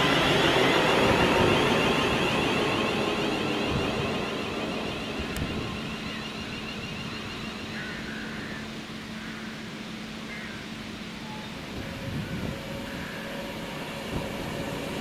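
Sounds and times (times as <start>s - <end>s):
electric train receding: 0.0s - 15.0s.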